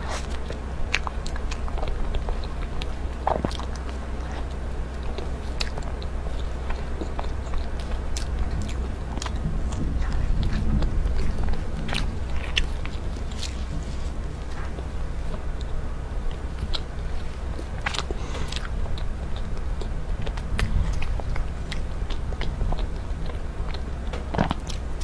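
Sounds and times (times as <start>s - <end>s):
chewing soft cake: 0.0s - 25.0s
steady low hum: 0.0s - 25.0s.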